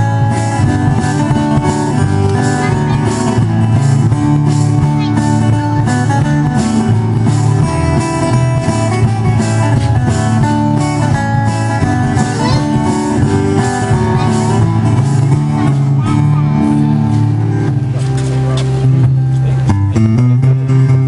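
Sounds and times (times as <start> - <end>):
drum kit steady beat: 0.0 - 19.5
strummed acoustic guitars: 0.0 - 21.0
upright bass: 0.0 - 21.0.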